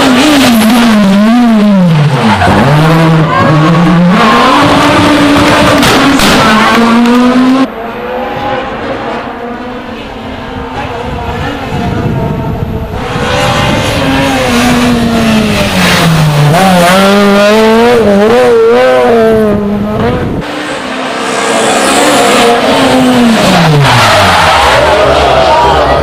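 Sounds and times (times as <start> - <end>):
rally car engine revving hard: 0.0 - 26.0.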